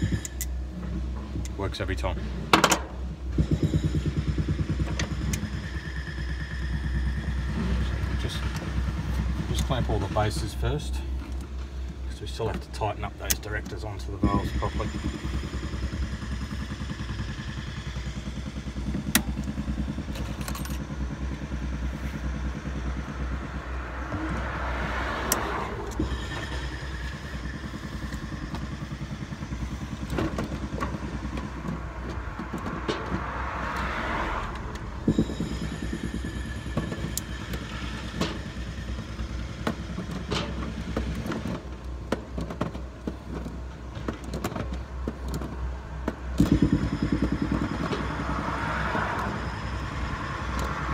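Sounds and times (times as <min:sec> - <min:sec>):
low motor drone: 0:00.0 - 0:50.9.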